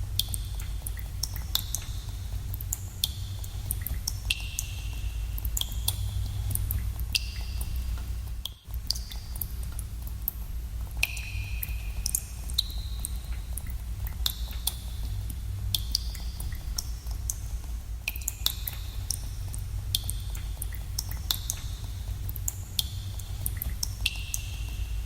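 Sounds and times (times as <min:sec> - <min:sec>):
steady low rumble: 0:00.0 - 0:25.0
water drops plinking into pools: 0:00.1 - 0:10.4, 0:11.0 - 0:17.4, 0:18.0 - 0:24.9.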